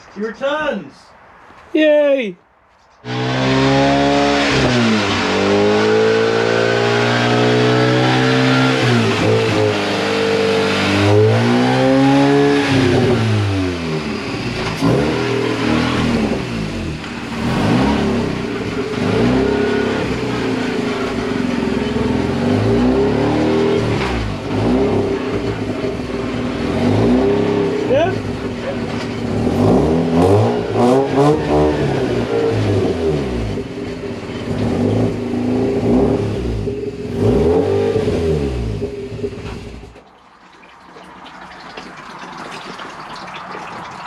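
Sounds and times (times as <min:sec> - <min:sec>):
rotary engine revving: 0:03.0 - 0:40.0.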